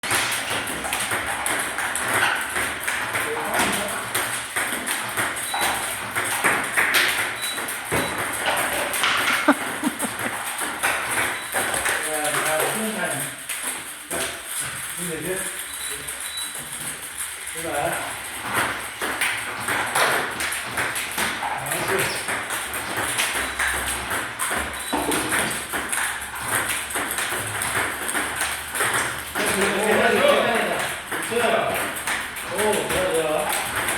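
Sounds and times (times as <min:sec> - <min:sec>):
table tennis balls clicking: 0:00.0 - 0:33.9.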